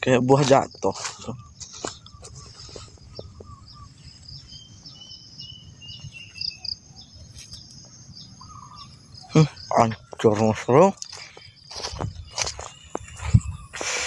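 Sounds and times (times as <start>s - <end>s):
high insect drone: 0.0s - 14.0s
small birds chirping: 0.0s - 14.0s.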